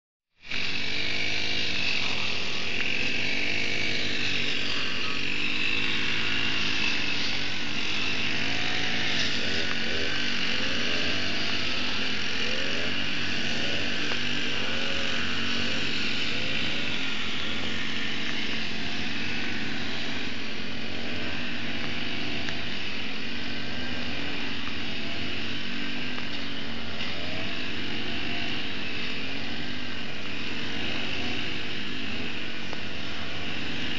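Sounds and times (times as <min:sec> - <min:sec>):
grass trimmer engines revving: 0:00.4 - 0:33.9.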